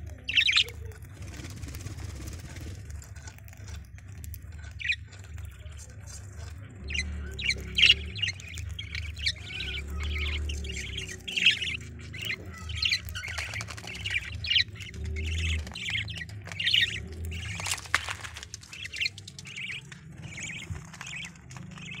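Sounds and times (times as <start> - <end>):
pet bird squawking: 0.0 - 1.9, 4.2 - 5.2, 6.5 - 22.0
steady low hum: 0.0 - 22.0.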